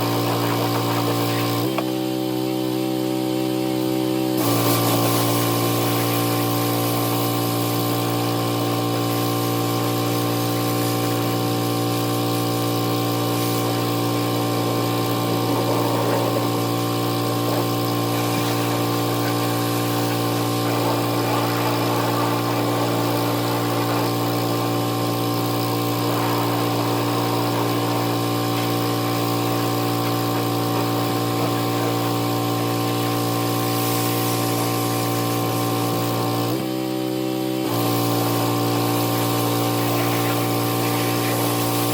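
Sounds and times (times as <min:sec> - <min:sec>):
pressure washer engine running: 0:00.0 - 0:41.9.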